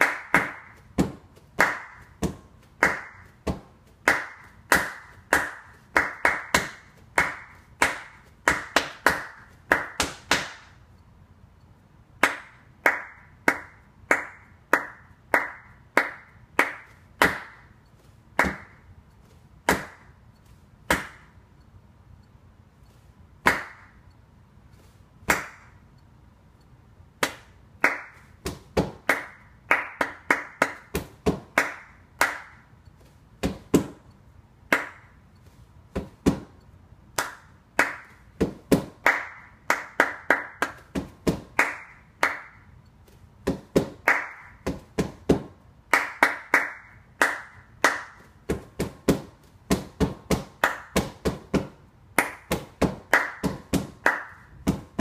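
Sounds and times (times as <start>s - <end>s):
rhythmic hand clapping: 0.0s - 10.8s, 12.1s - 18.9s, 19.6s - 20.2s, 20.9s - 21.4s, 23.4s - 24.0s, 25.2s - 25.8s, 27.2s - 32.7s, 33.4s - 35.2s, 35.9s - 42.8s, 43.4s - 55.0s.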